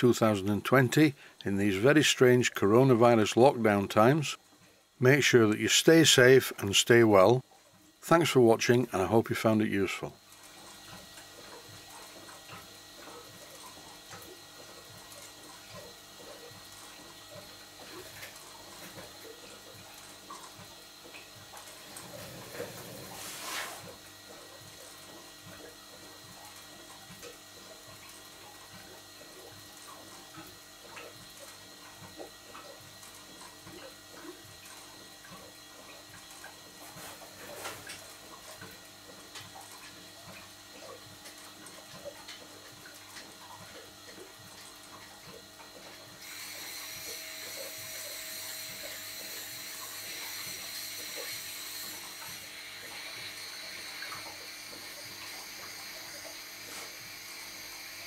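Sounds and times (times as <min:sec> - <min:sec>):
water pump gurgling: 0:00.0 - 0:58.0.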